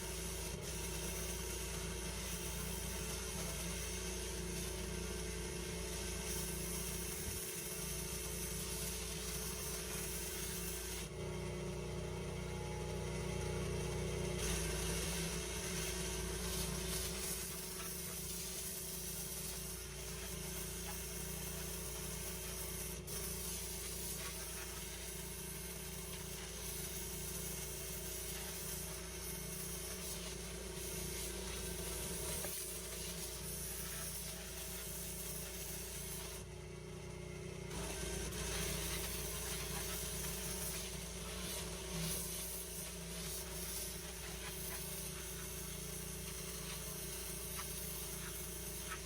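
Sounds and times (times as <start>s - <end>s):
high-pressure water spray hiss: 0.0s - 11.1s, 13.1s - 36.5s, 37.7s - 49.0s
pressure washer engine running: 0.0s - 49.0s.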